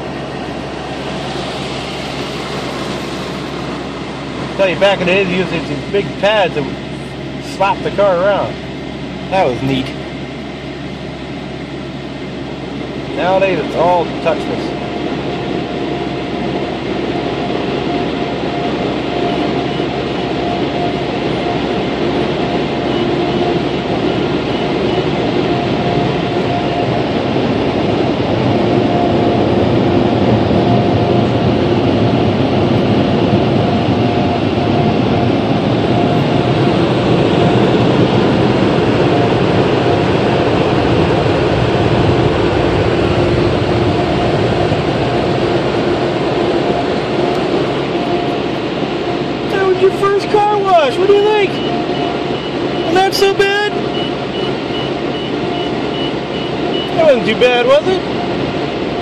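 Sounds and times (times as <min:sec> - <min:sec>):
car wash air blowers whining: 0:00.0 - 0:59.0.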